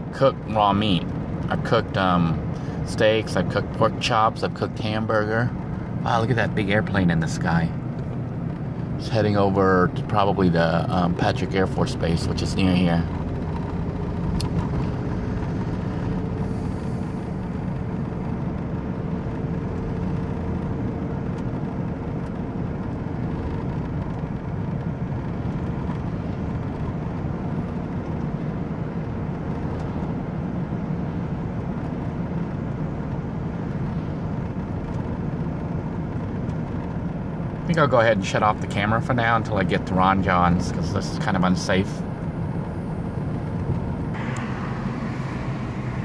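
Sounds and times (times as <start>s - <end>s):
faint steady whine: 0.0s - 46.0s
van engine and tyre drone: 0.0s - 46.0s.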